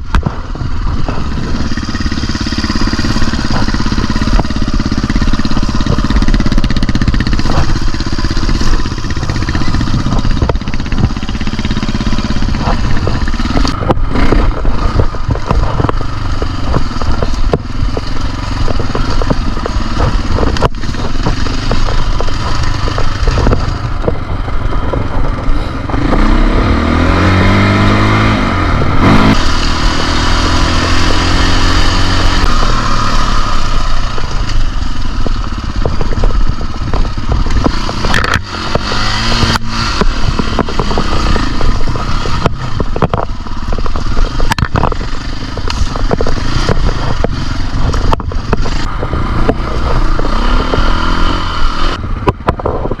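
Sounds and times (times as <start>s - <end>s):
knocks and rattles: 0.0s - 26.4s, 29.2s - 51.2s
dirt bike engine revving: 0.0s - 53.0s.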